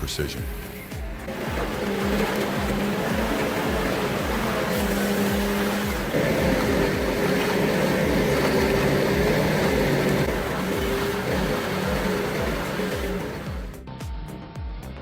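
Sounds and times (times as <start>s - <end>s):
machine engine running under load: 0.0s - 13.8s.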